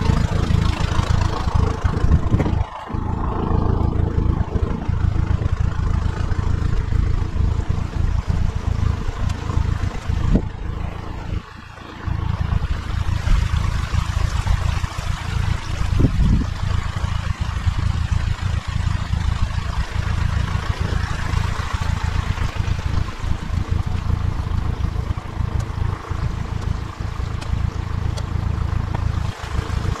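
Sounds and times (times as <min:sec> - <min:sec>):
diesel water pump running: 0:00.0 - 0:30.0
water gushing and splashing: 0:00.0 - 0:30.0.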